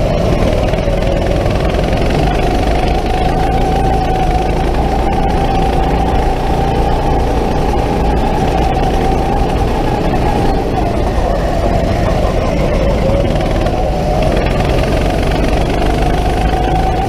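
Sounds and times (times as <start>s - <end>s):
go-kart engine whine: 0.0s - 17.0s
road rumble: 0.0s - 17.0s
wind noise: 0.0s - 17.0s.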